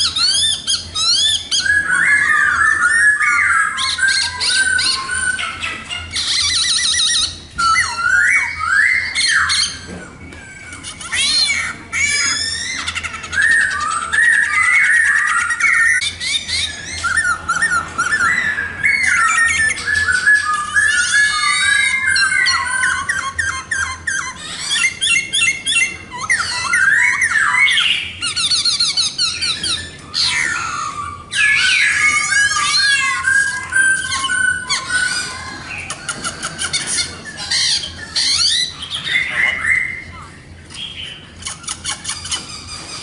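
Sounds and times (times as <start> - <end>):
laughingthrush singing: 0.0 - 43.0.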